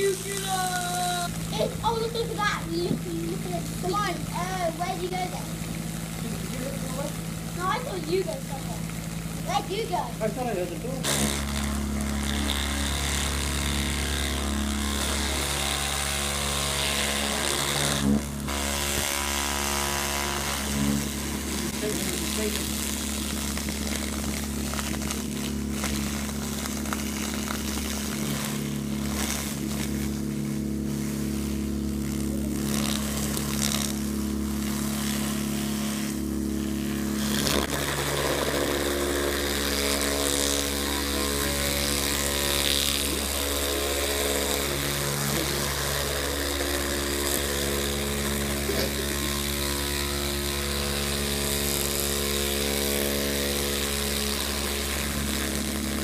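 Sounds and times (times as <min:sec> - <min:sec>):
loudspeaker buzzing hum: 0:00.0 - 0:56.0.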